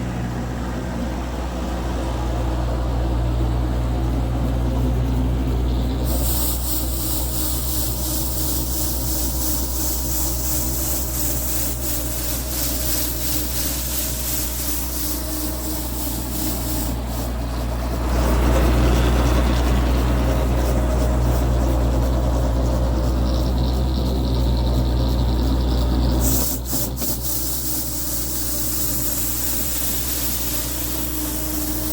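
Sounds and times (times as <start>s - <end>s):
machine humming and ticking: 0.0s - 31.9s
rough rasping noise: 5.4s - 31.9s.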